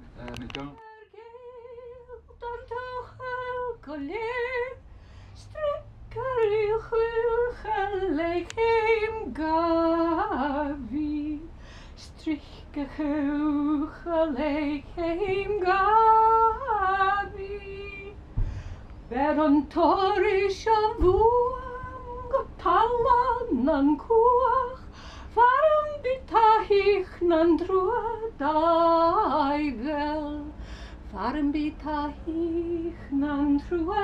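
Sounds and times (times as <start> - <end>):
woman singing unaccompanied: 0.8 - 4.8, 5.4 - 18.2, 19.0 - 34.0.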